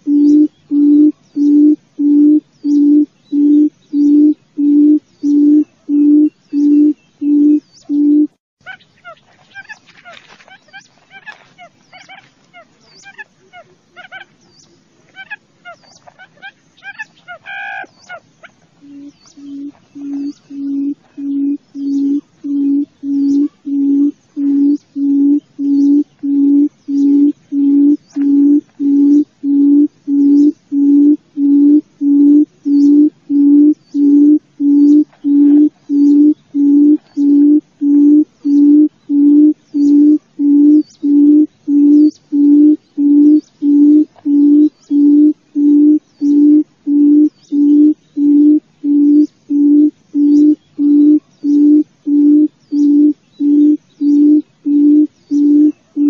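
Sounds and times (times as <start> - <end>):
quail low hooting call: 0.0 - 14.4, 15.1 - 56.0.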